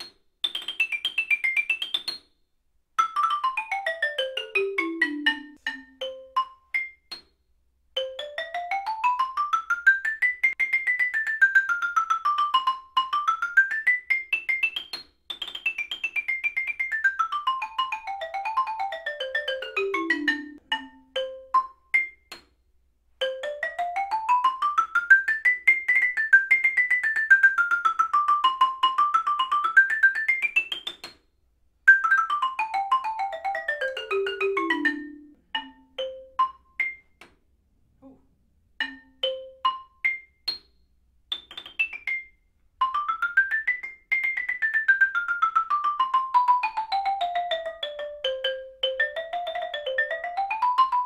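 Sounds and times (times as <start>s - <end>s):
xylophone played with mallets: 3.0s - 7.4s, 8.0s - 22.5s, 23.2s - 31.2s, 31.9s - 37.3s, 38.8s - 51.0s.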